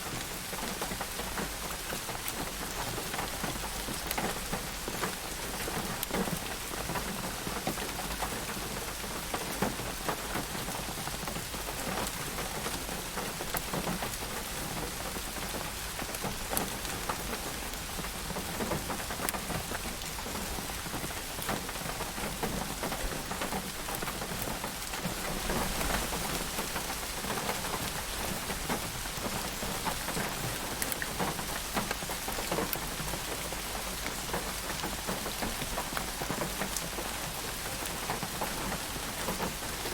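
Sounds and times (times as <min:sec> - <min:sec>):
rain pattering on hard surface: 0:00.0 - 0:39.9.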